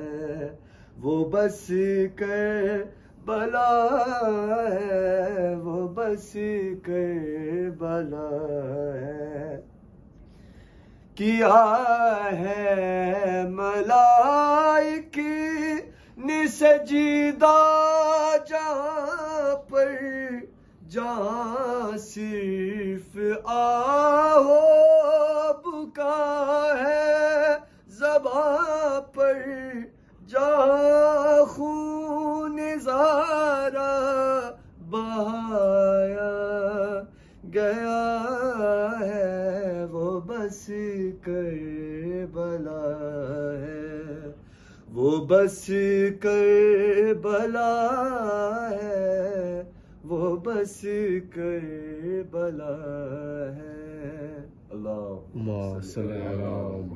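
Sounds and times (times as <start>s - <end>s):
man chanting: 0.0s - 9.6s, 11.1s - 56.9s.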